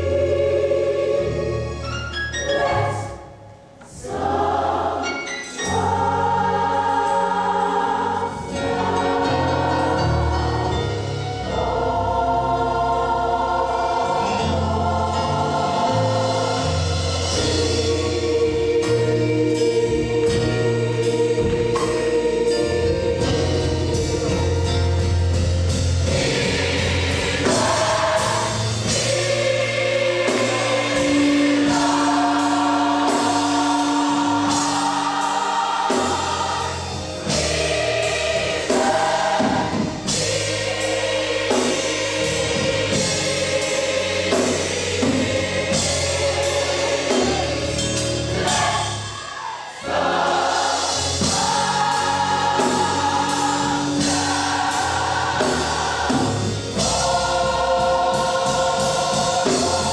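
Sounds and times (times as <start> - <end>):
gospel choir singing: 0.0 - 59.9.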